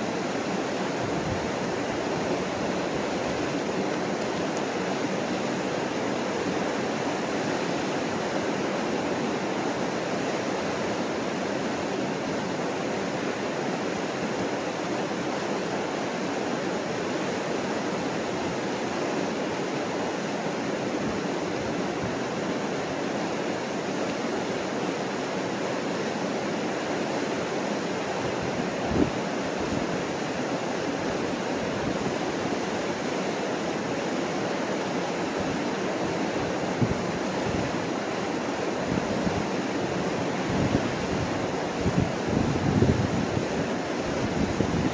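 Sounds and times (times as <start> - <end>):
river rushing over rocks: 0.0 - 44.9.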